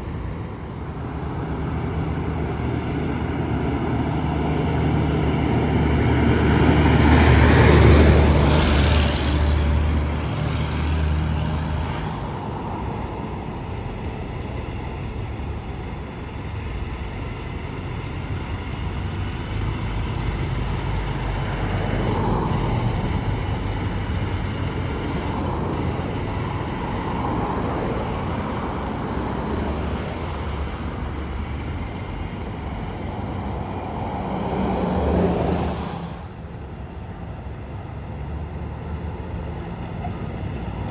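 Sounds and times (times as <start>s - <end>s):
heavy truck passing: 0.0s - 40.9s
tyre and road noise: 0.0s - 40.9s
vehicles going past: 0.0s - 40.9s.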